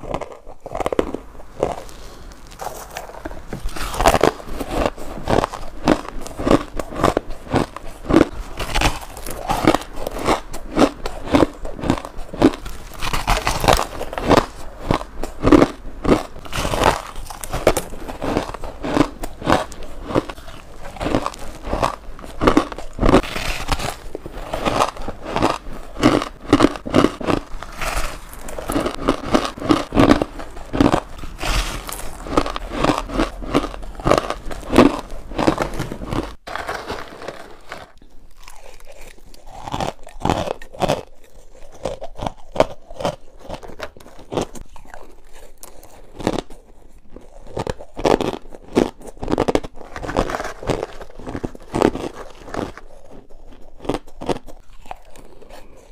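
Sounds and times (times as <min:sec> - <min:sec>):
chewing: 0:00.0 - 0:36.4, 0:37.1 - 0:55.9
crunching crushed ice: 0:00.0 - 0:55.9.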